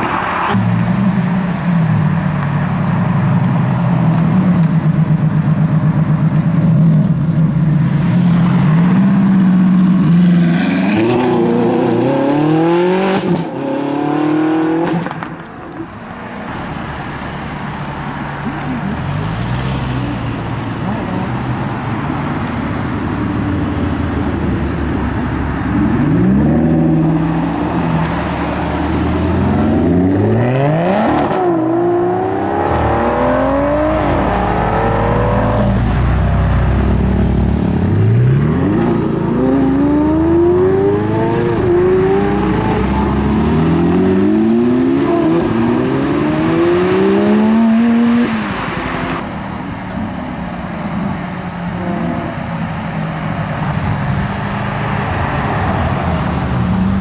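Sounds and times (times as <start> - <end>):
car engines accelerating hard: 0.0 - 16.1, 16.7 - 57.0.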